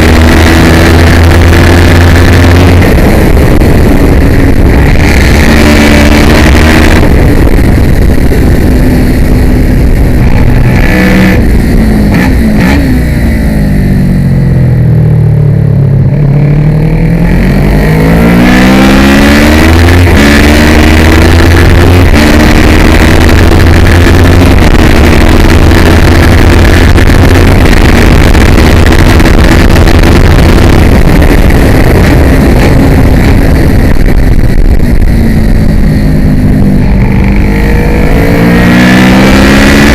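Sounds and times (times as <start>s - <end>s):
motorcycle engine racing: 0.0s - 39.9s.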